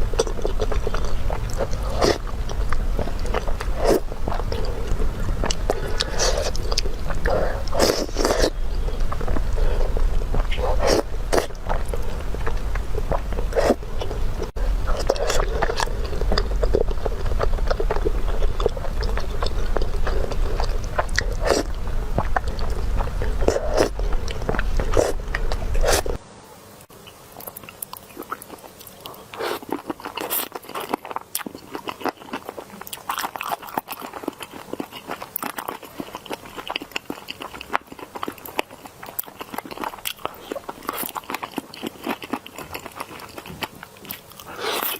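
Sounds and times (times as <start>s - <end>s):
crunchy food chewing: 0.0s - 26.2s, 27.0s - 44.9s
background hum: 0.0s - 44.9s.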